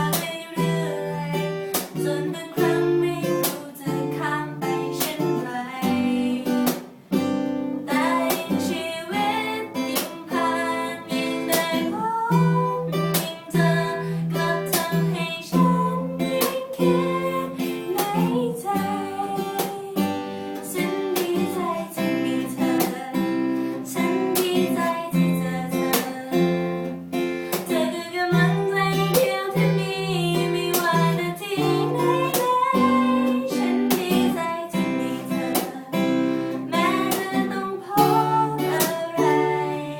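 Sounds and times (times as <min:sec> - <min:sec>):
person singing: 0:00.0 - 0:06.8, 0:07.7 - 0:39.9
acoustic guitar strumming: 0:00.0 - 0:39.9.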